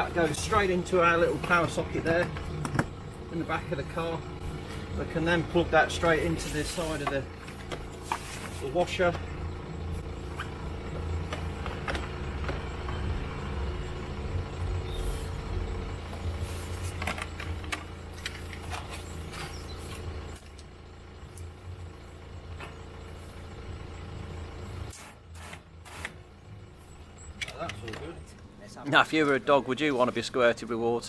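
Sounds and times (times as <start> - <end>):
low motor hum: 0.0 - 30.3.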